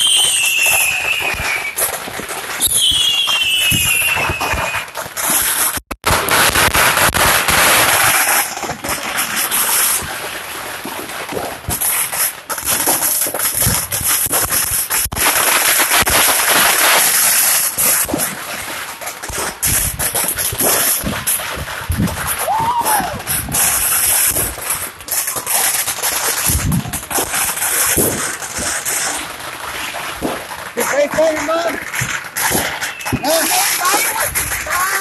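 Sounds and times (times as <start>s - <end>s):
fireworks crackling and popping: 0.0s - 35.0s.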